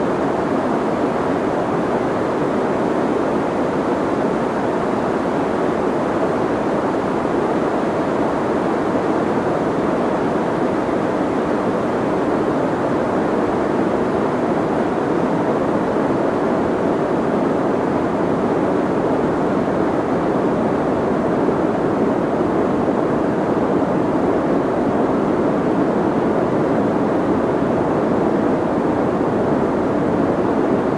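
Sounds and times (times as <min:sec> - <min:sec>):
muffled white noise: 0:00.0 - 0:30.9.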